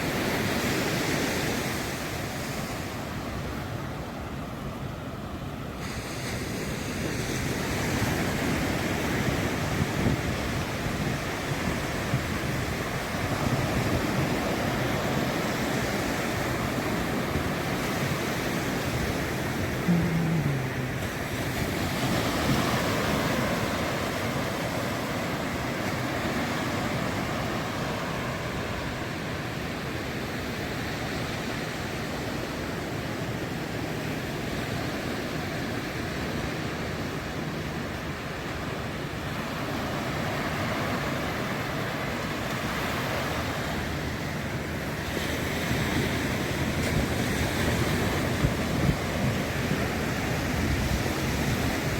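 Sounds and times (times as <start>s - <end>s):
ocean surf breaking: 0.0s - 51.9s.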